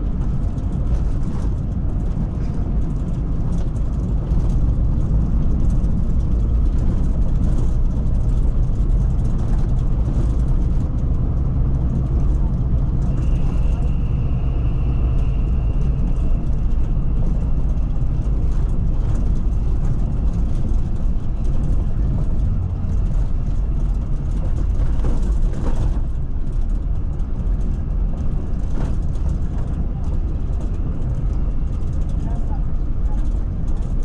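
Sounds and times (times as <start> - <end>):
engine and road rumble: 0.0 - 34.0.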